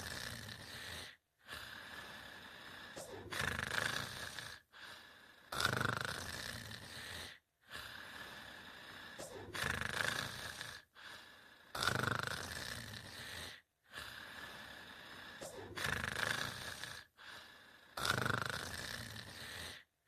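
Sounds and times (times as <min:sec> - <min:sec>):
cartoon character snoring: 0:00.0 - 0:19.9.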